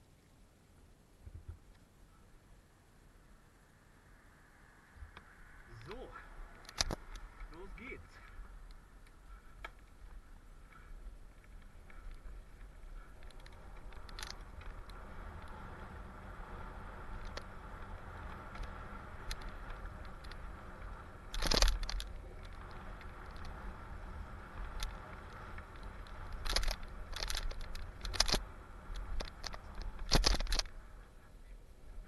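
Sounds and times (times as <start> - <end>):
bike tyres rumbling on dirt: 5.2 - 32.0
bike chain and parts rattling: 5.7 - 32.0.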